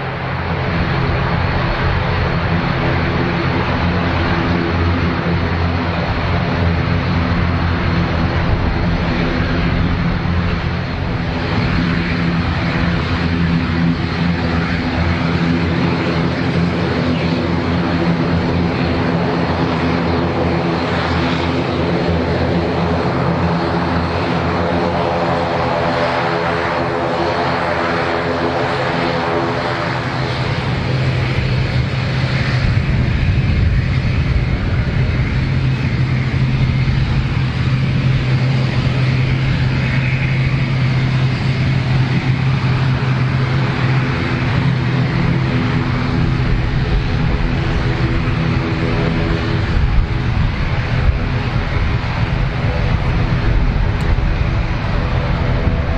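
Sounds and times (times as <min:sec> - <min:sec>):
turboprop engines droning: 0:00.0 - 0:55.9.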